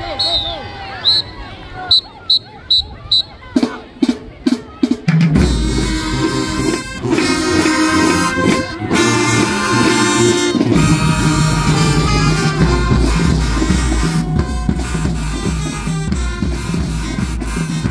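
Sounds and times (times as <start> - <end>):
marching band playing: 2.3 - 17.9.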